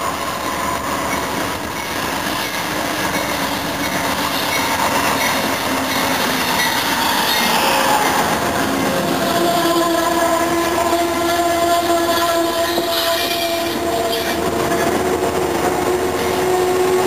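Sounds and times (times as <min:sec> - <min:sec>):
diesel locomotive engine: 0:00.0 - 0:17.0
train wheels on rails: 0:00.0 - 0:17.0.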